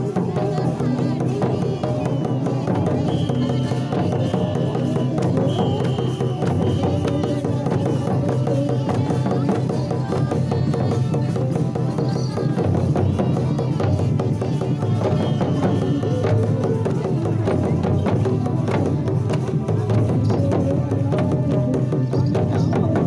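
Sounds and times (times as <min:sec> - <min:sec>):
fast folk drumming: 0:00.0 - 0:23.0.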